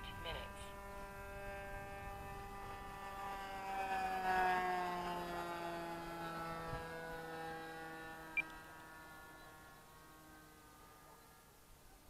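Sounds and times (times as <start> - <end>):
model plane engine passing: 0.0 - 12.0.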